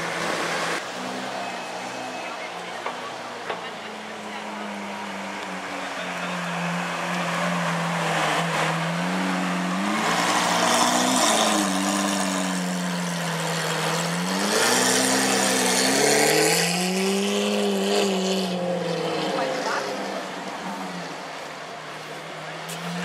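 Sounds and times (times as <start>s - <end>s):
sports car engine revving: 0.0s - 23.0s.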